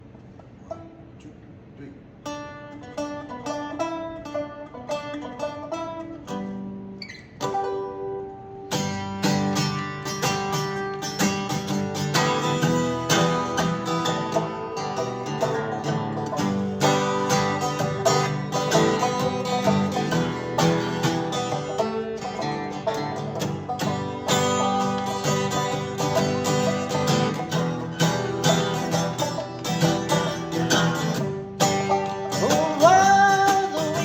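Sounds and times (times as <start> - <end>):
plucked string instruments: 2.2 - 34.0.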